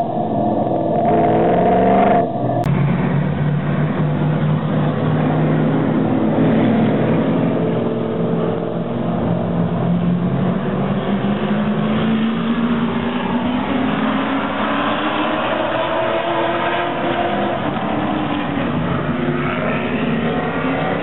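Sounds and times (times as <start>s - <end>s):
stock car engines racing: 0.0s - 21.0s.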